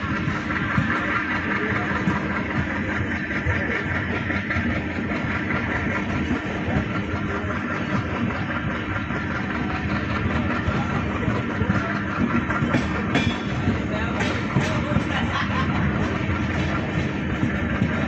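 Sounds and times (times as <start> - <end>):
constant low hum: 0.0 - 18.0
passenger train running: 0.0 - 18.0.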